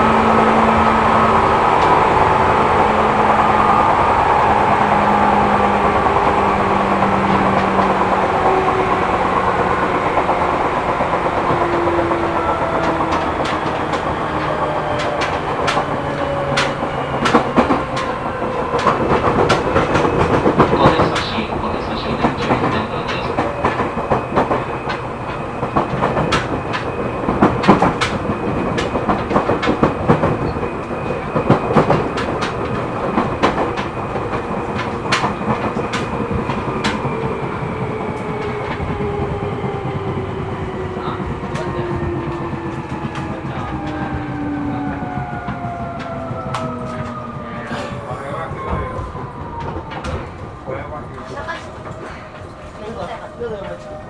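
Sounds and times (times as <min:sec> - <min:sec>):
electric train motor tones: 0:00.0 - 0:54.0
wheels clattering over rail joints: 0:00.0 - 0:54.0.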